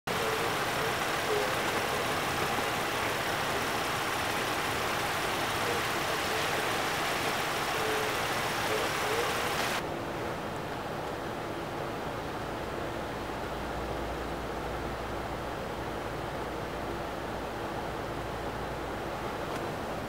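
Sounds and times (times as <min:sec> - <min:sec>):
traffic hiss on wet road: 0:00.1 - 0:20.0.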